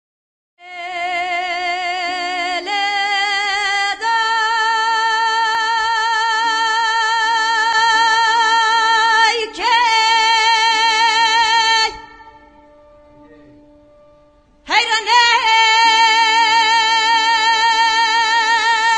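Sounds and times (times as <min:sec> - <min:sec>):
woman singing with vibrato: 0:00.6 - 0:12.7, 0:14.6 - 0:18.9.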